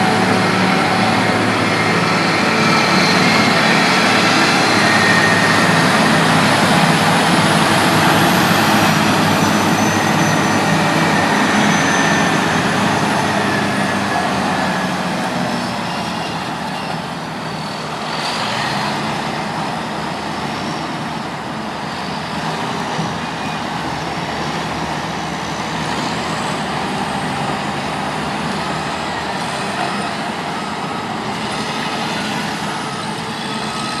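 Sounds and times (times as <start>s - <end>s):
bulldozer engine under load: 0.0s - 34.0s.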